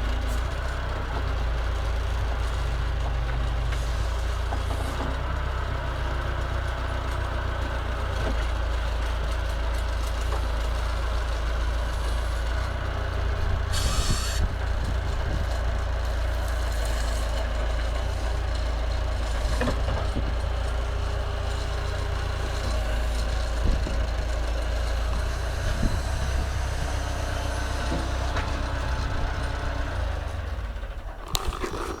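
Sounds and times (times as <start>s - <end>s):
diesel engine running: 0.0s - 31.4s.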